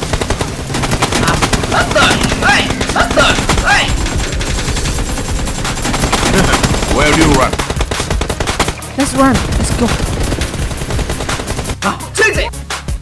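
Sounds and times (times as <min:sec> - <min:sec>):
rapid automatic gunfire: 0:00.0 - 0:11.8.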